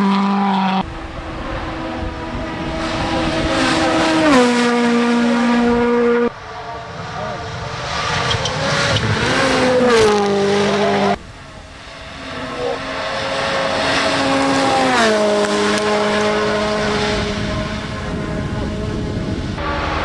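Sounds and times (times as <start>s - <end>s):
rally car engines running flat out: 0.7s - 20.0s.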